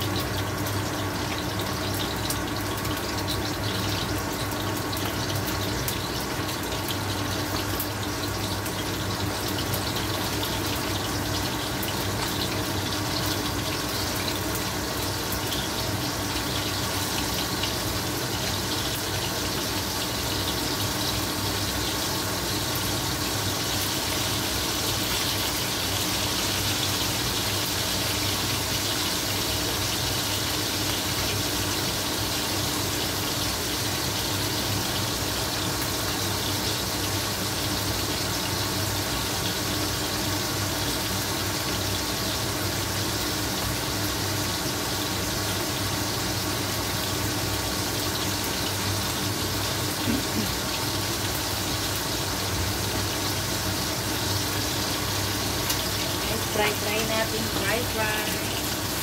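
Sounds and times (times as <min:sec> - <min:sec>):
pork deep-frying in oil: 0:00.0 - 0:59.0.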